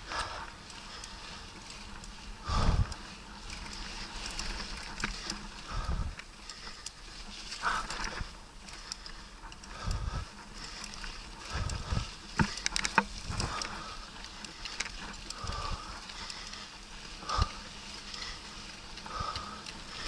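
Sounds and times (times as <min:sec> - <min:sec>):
bike rattling over bumps: 0:00.0 - 0:20.0
bike tyres rolling on dirt: 0:00.0 - 0:20.0.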